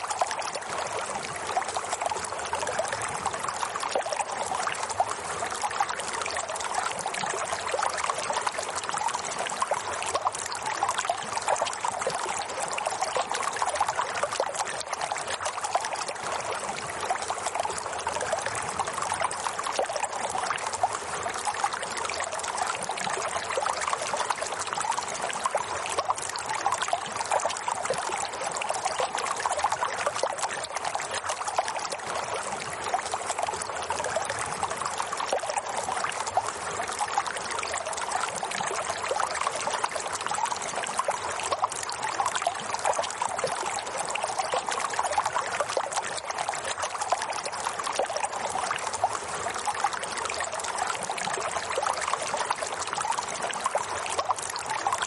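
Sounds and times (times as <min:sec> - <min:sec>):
running water trickling: 0:00.0 - 0:55.0.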